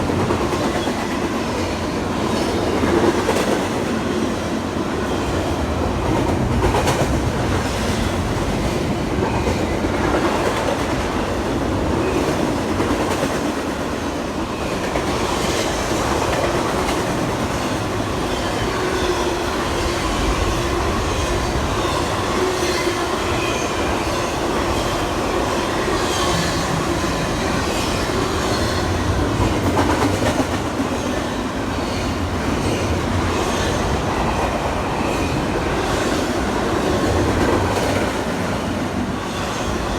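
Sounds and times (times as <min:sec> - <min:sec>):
train wheels clacking over rails: 0:00.0 - 0:39.9.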